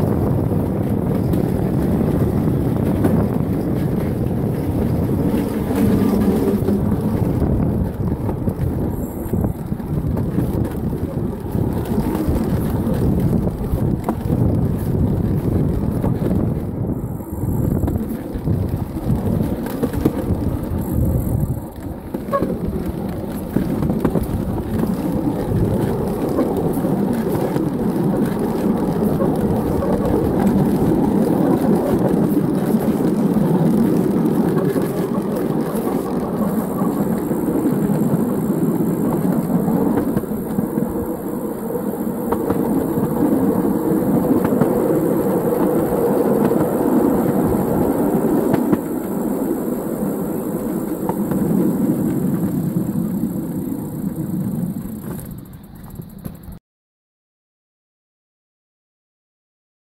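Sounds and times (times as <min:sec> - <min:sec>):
wheels rumbling on rail track: 0:00.0 - 0:56.6
wind buffeting microphone: 0:00.0 - 0:56.6.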